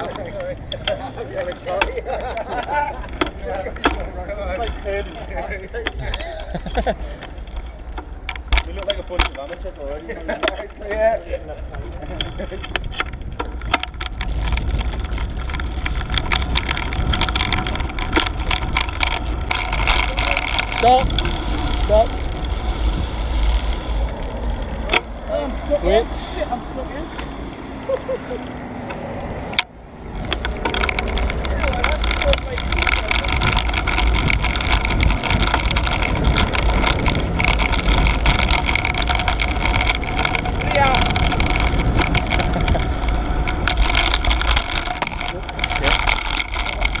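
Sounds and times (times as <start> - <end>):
wind buffeting microphone: 0.0 - 27.8, 29.1 - 47.0
tyre and road noise: 0.0 - 47.0.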